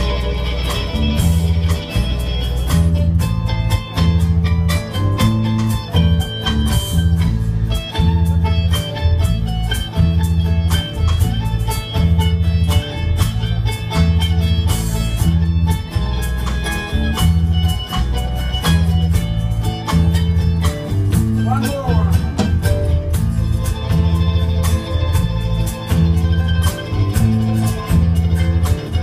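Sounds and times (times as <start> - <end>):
acoustic guitars: 0.0 - 29.0
drums: 0.0 - 29.0
low bass riff: 0.0 - 29.0.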